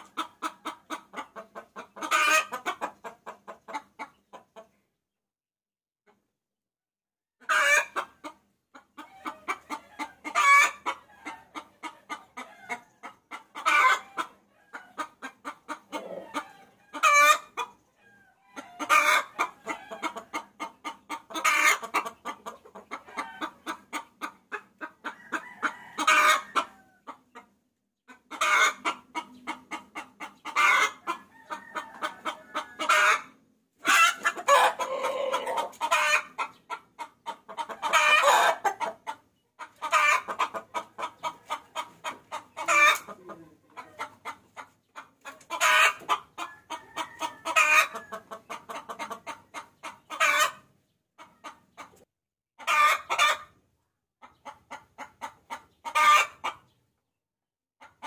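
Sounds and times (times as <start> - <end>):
hen cackling: 0.0 - 4.1, 7.4 - 27.4, 28.1 - 51.6, 52.6 - 53.5, 54.2 - 56.6.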